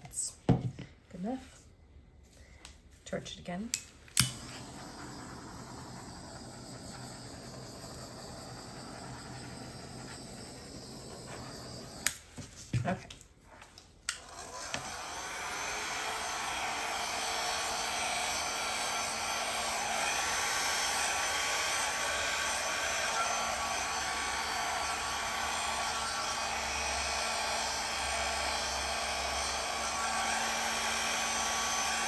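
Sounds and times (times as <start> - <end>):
hair dryer running: 4.2 - 12.4, 14.1 - 32.0.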